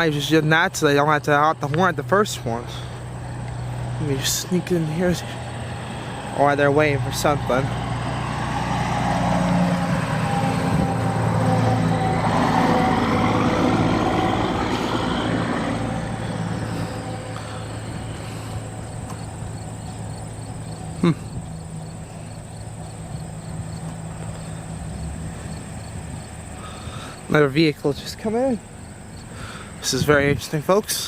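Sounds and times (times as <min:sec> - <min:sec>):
vehicle driving past: 0:00.0 - 0:30.0
crickets chirping: 0:00.0 - 0:31.0
low engine hum: 0:00.0 - 0:31.0.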